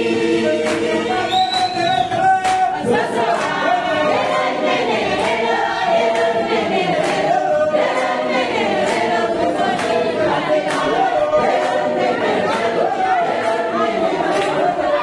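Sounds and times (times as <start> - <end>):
group singing in harmony: 0.0 - 15.0.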